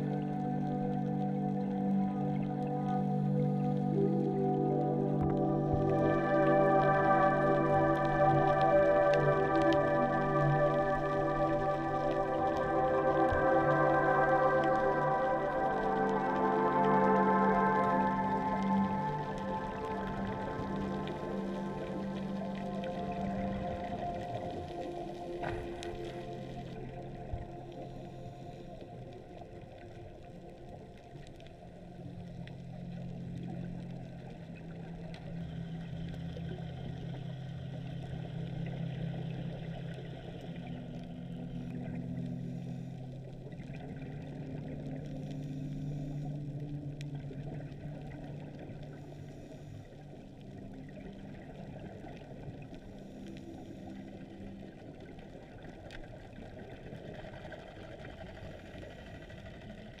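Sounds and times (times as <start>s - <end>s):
boat engine drone underwater: 0.0s - 60.0s.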